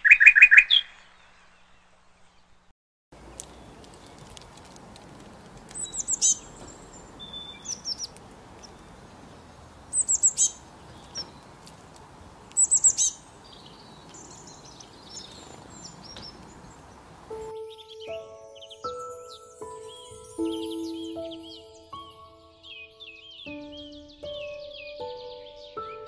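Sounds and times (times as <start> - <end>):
background hiss: 3.2 - 24.4
small bird calling: 3.2 - 26.0.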